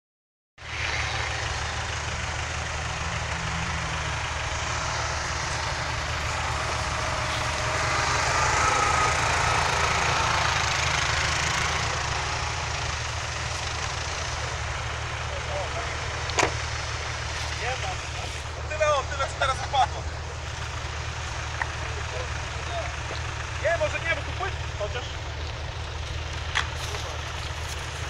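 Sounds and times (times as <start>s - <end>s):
off-road vehicle engines under load: 0.6s - 28.0s.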